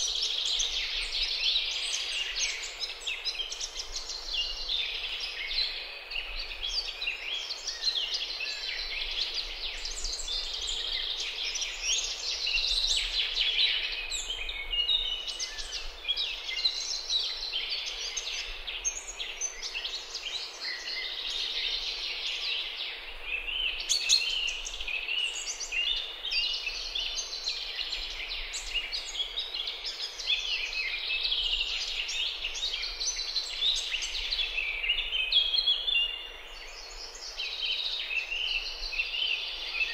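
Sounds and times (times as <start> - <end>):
birds chirping and peeping: 0.0 - 39.9.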